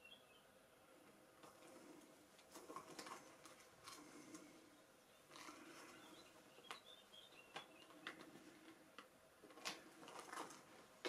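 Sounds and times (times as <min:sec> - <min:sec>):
faint rustles and clicks: 0:01.0 - 0:11.0.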